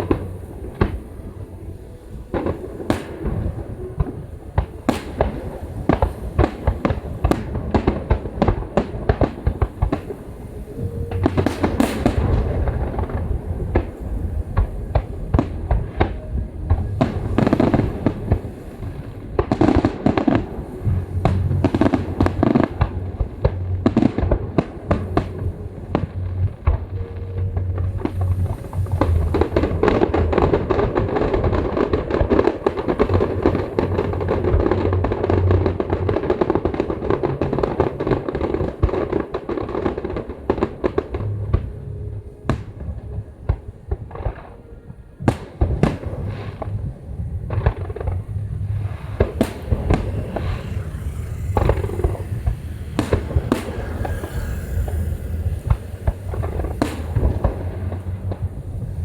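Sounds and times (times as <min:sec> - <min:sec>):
fireworks booming and crackling: 0:00.0 - 0:59.0.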